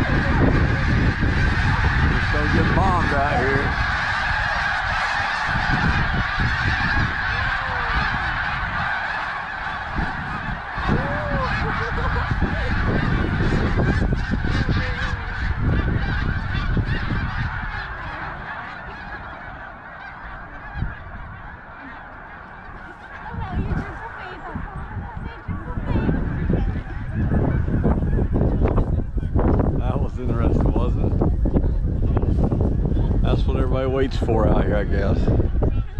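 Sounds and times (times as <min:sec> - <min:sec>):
flock of geese honking: 0:00.0 - 0:35.9
wind rumble on microphone: 0:00.0 - 0:35.9.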